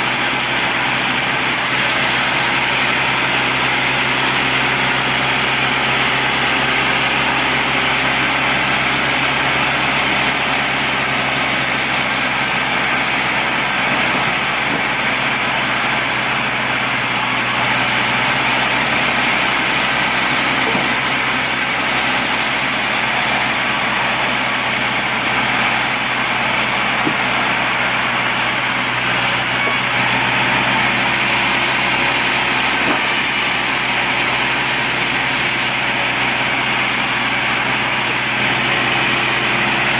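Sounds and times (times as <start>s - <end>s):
bandsaw running: 0.0s - 39.9s.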